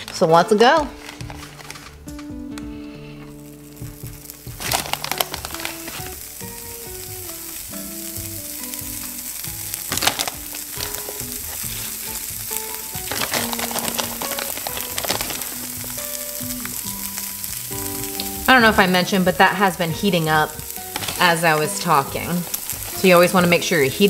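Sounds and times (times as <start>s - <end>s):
light melody music: 0.0s - 24.0s
steady hiss: 3.4s - 24.0s.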